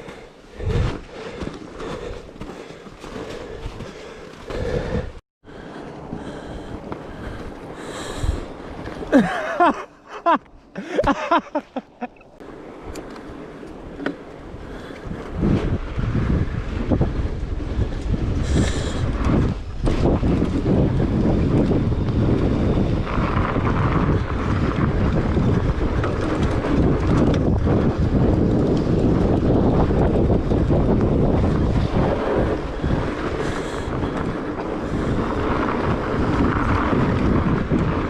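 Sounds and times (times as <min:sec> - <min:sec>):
wind buffeting microphone: 0:00.0 - 0:09.8, 0:12.8 - 0:38.0
bike tires rolling over snow: 0:00.0 - 0:38.0.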